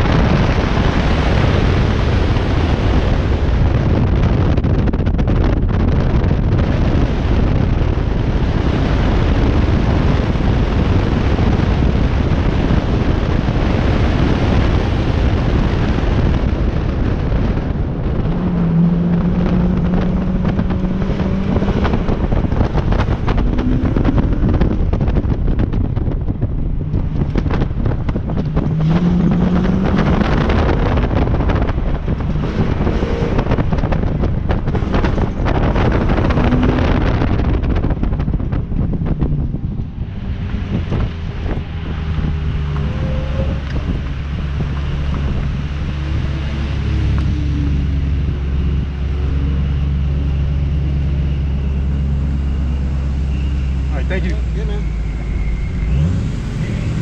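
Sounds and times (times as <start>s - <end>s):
car engine revving: 0.0s - 57.0s
wind buffeting microphone: 0.0s - 57.0s.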